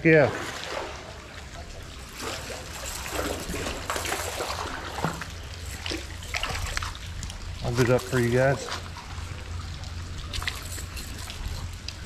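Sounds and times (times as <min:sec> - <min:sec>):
steady low hum: 0:00.0 - 0:12.0
water trickling and dripping: 0:00.0 - 0:12.0
fish splashing at water surface: 0:00.3 - 0:12.0.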